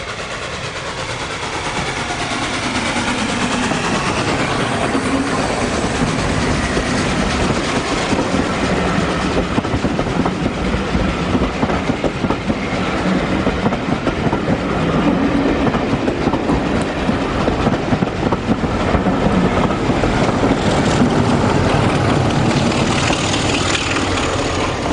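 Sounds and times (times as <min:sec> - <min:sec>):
low train drone: 0:00.0 - 0:24.9
train wheels clattering on rails: 0:00.0 - 0:24.9.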